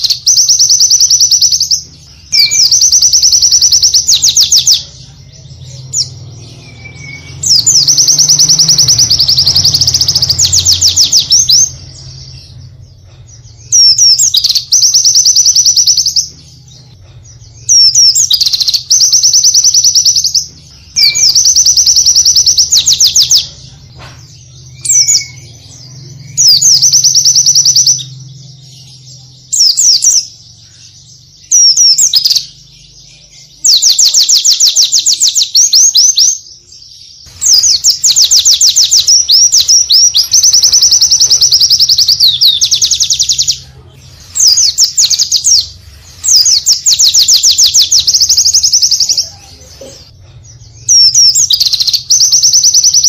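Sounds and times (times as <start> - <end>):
bird singing high trills: 0.0 - 23.7, 24.4 - 43.7, 44.3 - 49.4, 50.6 - 53.0.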